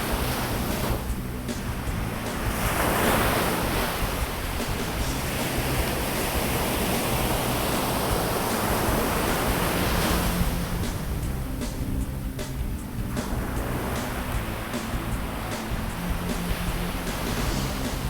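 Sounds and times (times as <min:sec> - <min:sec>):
ocean surf on beach: 0:00.0 - 0:18.0.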